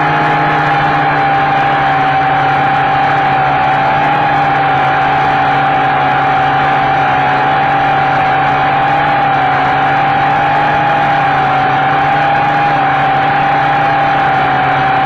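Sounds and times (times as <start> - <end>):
drone motors whining: 0.0 - 15.0
propeller rush: 0.0 - 15.0.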